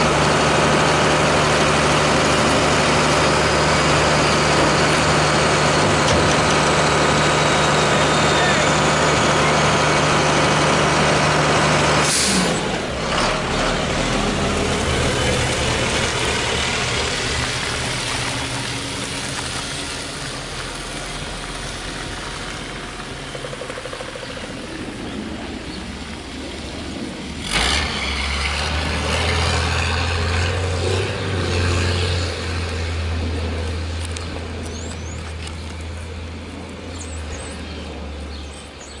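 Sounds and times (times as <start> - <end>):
refuse truck engine running: 0.0 - 39.0.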